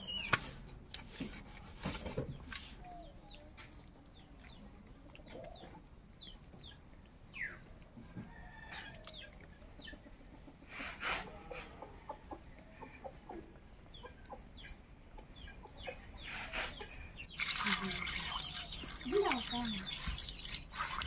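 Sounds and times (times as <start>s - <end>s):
small birds chirping: 2.0s - 10.9s, 12.0s - 21.0s
chickens clucking: 2.2s - 6.8s, 7.4s - 21.0s.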